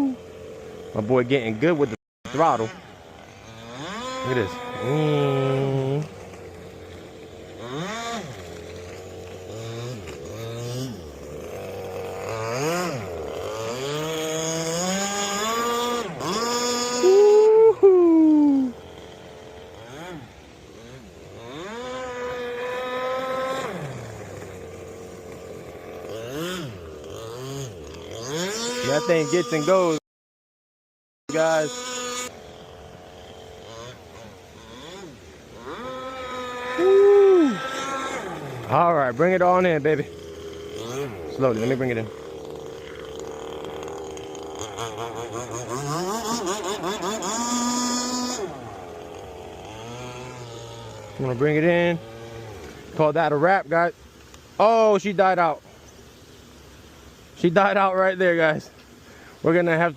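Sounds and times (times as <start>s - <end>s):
model boat engine revving: 0.0s - 30.0s, 31.3s - 59.9s.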